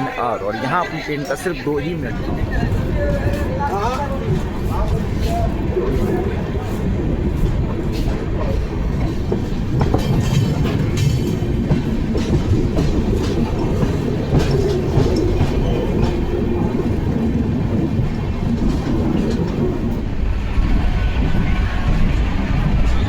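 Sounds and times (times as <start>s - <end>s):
train rumbling: 0.0s - 23.0s
wheels clacking over rail joints: 2.1s - 23.0s.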